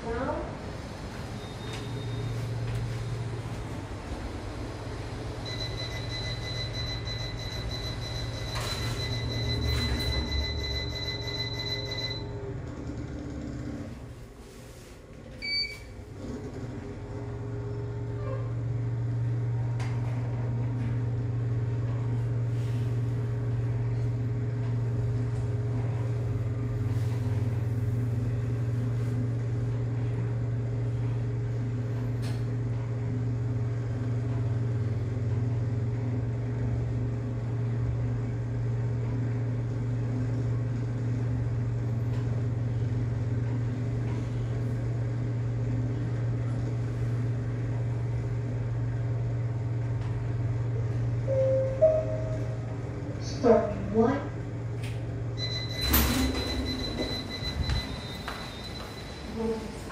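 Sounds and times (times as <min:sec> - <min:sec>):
lift car humming and rumbling: 0:00.0 - 0:59.9.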